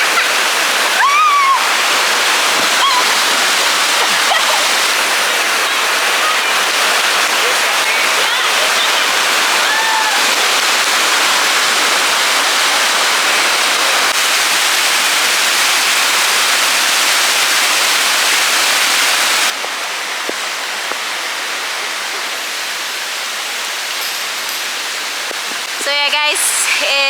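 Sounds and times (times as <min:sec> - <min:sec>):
waterfall rushing water: 0:00.0 - 0:27.0.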